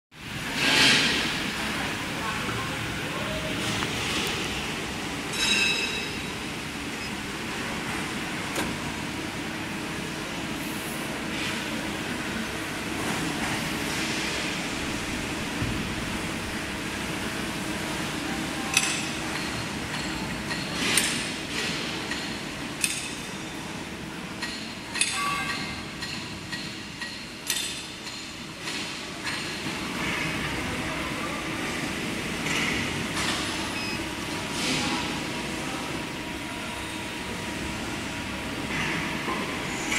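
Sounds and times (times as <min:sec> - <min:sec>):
workshop machinery hum: 0:00.1 - 0:39.9.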